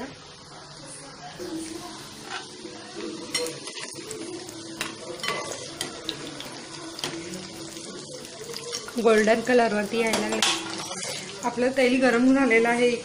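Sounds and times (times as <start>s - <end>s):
oil sizzling and bubbling: 0.0s - 13.0s.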